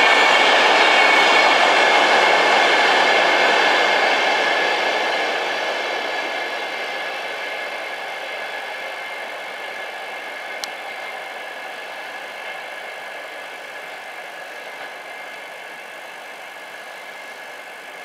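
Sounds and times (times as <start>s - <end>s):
electric train humming and whining: 0.0s - 18.0s.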